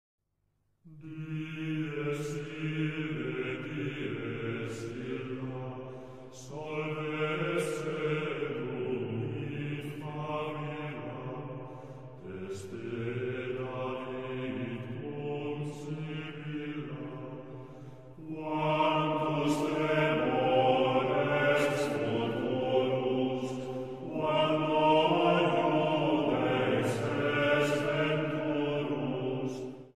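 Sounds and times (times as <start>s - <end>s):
slow chanted singing: 0.8s - 30.0s.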